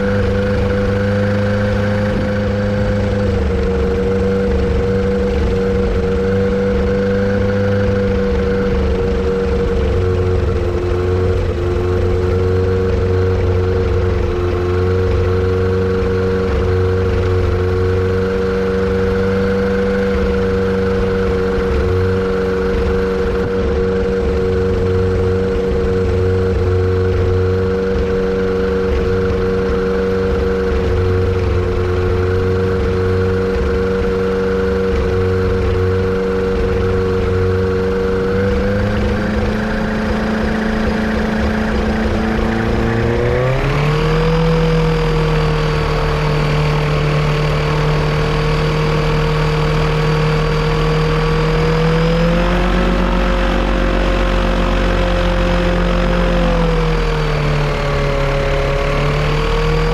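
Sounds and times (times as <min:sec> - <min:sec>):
aircraft engine running: 0:00.0 - 0:59.9
uneven low throb: 0:00.0 - 0:59.9.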